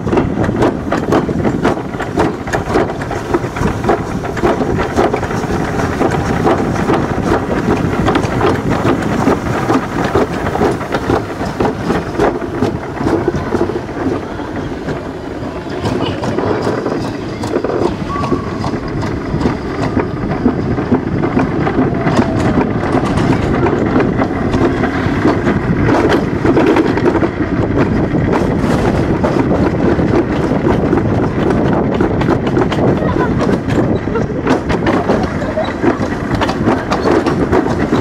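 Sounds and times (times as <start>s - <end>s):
sled rumbling down steel trough: 0.0s - 38.0s
wind buffeting microphone: 0.0s - 38.0s.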